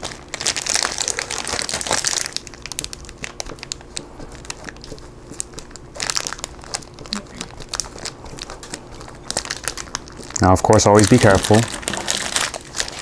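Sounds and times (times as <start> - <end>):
cheese grating: 0.0 - 13.0.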